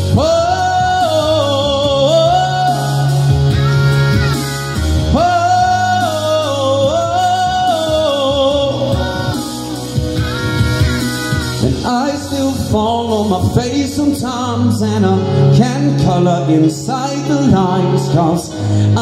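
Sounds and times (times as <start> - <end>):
person singing wordless vocal run: 0.0 - 19.0
pop backing track: 0.0 - 19.0.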